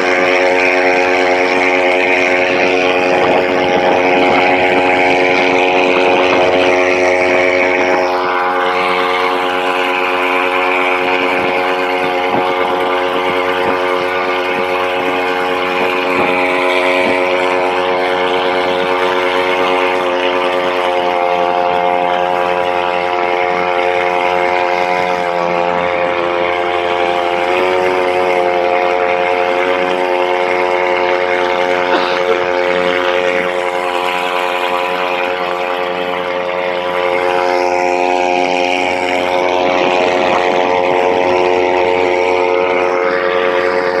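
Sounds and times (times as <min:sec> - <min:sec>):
engine humming whine: 0:00.0 - 0:44.0.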